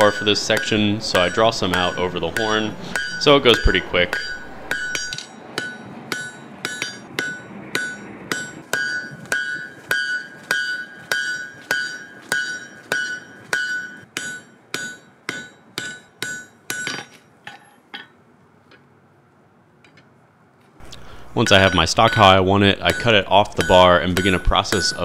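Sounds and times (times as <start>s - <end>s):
hammer striking iron on anvil: 0.0s - 18.2s, 21.5s - 25.0s.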